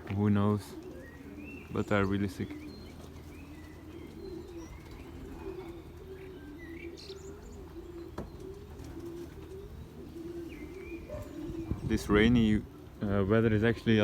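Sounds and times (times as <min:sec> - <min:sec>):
pigeons cooing: 0:00.0 - 0:14.0
pigeon chirps: 0:00.7 - 0:12.4.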